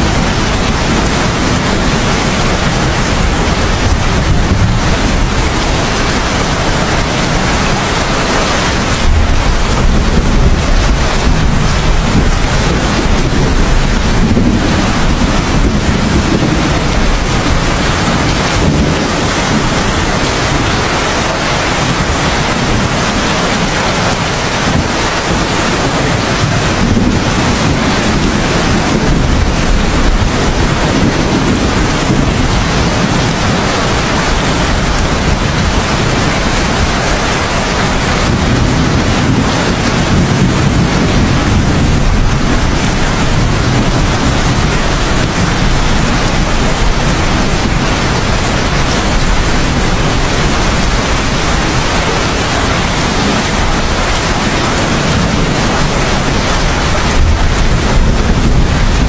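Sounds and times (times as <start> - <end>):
heavy rain: 0.0 - 59.0
low rolling thunder: 0.0 - 59.0.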